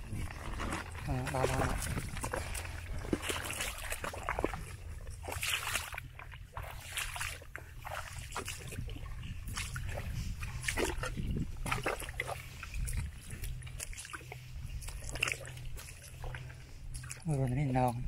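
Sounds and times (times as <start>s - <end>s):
boots squelching through mud: 0.0s - 18.0s
steady low rumble: 0.0s - 18.0s.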